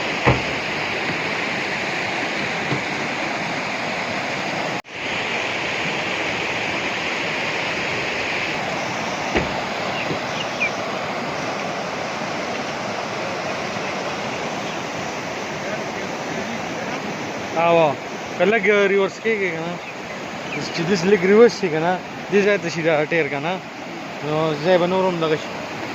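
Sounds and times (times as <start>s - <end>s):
water flowing: 0.0s - 25.9s.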